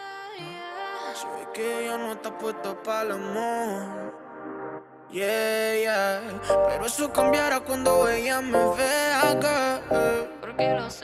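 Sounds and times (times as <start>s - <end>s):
background pop music: 0.0s - 11.0s.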